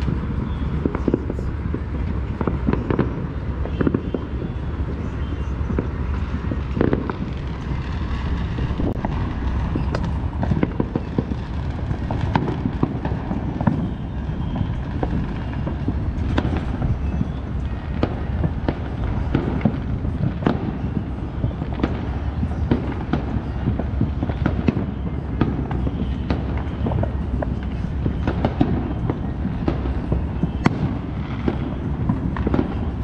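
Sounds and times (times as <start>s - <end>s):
constant low rumble: 0.0s - 33.0s
firecrackers cracking and banging: 0.0s - 33.0s.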